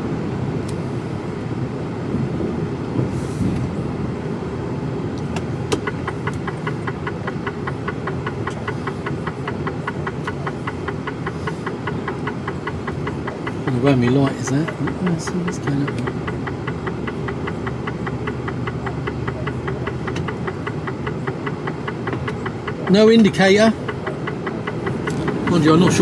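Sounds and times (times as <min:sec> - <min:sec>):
lorry engine and road noise: 0:00.0 - 0:26.0
turn signal ticking: 0:00.0 - 0:26.0.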